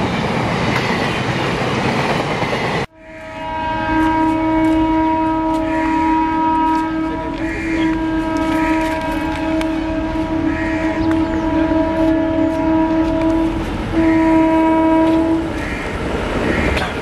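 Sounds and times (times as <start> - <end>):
locomotive horn: 2.9 - 17.0.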